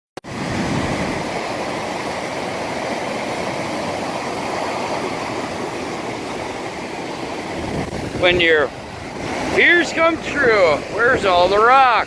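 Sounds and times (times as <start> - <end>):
large waves breaking on shore: 0.2 - 12.0.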